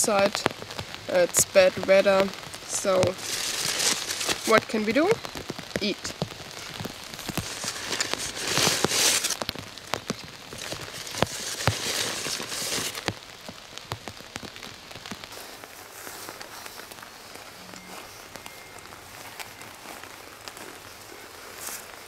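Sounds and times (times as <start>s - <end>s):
rain pattering on a tarp: 0.0s - 22.0s
raindrops ticking on fabric: 0.0s - 22.0s.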